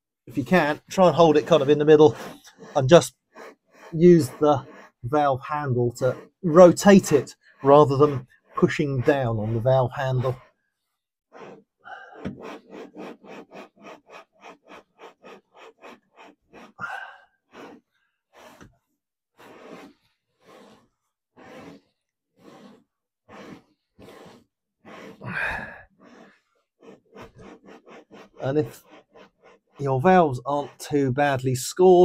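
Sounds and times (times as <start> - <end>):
valve cone grinding gritty rasping: 0.3 - 10.6, 11.3 - 16.8, 19.4 - 32.0.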